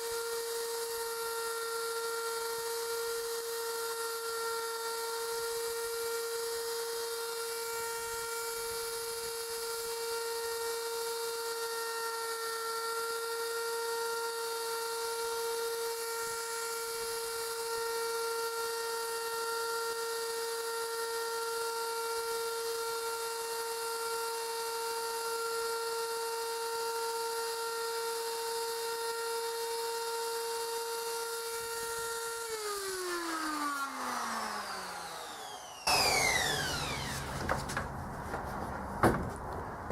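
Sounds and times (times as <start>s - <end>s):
router motor whining: 0.0s - 38.4s.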